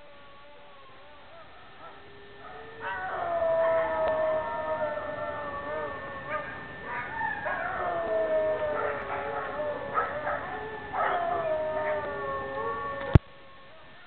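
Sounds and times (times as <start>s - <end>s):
dogs howling: 0.0s - 14.0s.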